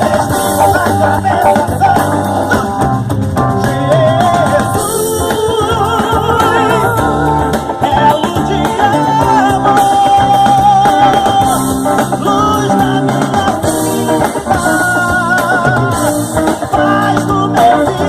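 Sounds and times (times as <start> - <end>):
band playing: 0.0 - 18.0
person singing: 0.0 - 18.0.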